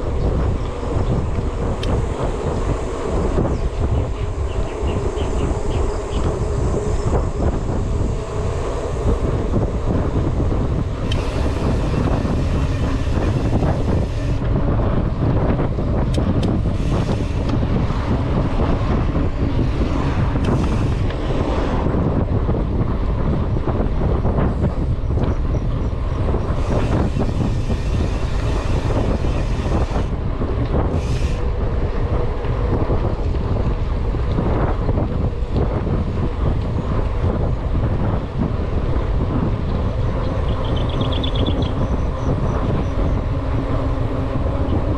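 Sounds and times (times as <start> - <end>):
bike tyres rolling on concrete: 0.0 - 44.9
wind buffeting microphone: 0.0 - 44.9.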